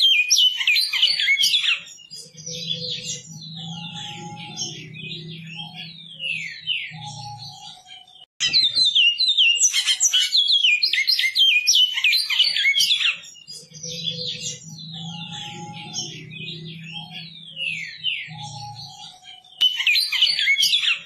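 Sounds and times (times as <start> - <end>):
finch chirping and whistling: 0.0 - 21.0.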